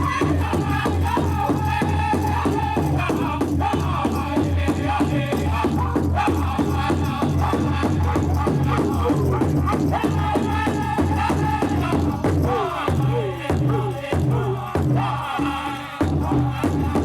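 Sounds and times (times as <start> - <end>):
big drum beat: 0.0 - 17.0
high group singing: 0.0 - 17.0.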